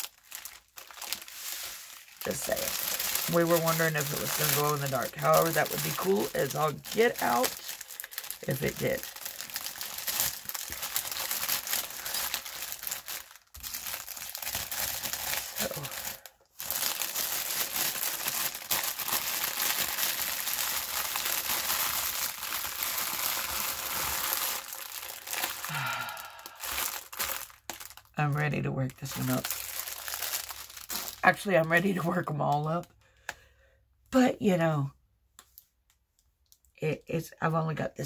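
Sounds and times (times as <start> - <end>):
plastic packaging crinkling: 0.0 - 32.9.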